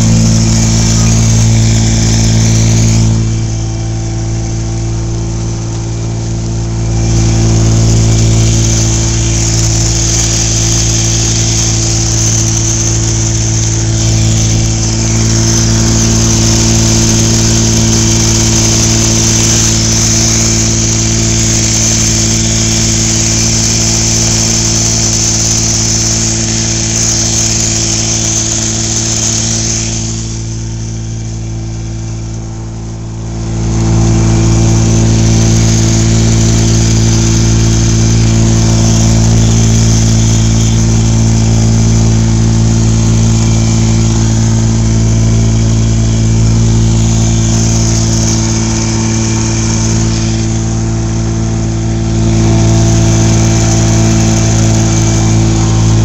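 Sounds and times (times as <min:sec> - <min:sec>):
boat engine running: 0:00.0 - 0:56.0
rushing hiss: 0:00.0 - 0:56.0.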